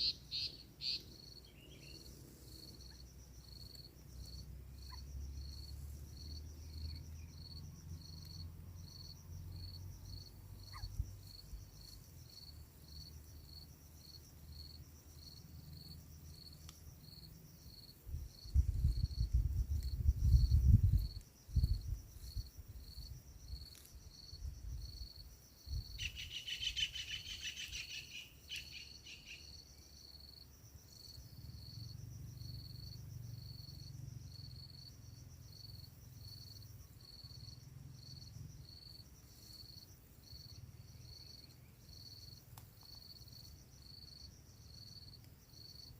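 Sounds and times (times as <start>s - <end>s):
cricket chirping: 0.0s - 45.9s.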